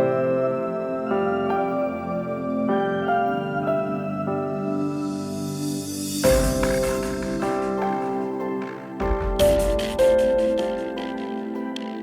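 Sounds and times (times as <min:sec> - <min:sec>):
soft instrumental chords: 0:00.0 - 0:12.0.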